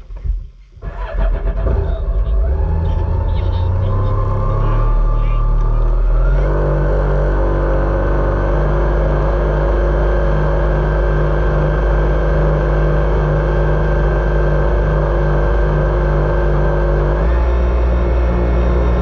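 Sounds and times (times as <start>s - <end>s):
jet ski engine running: 1.1s - 19.0s.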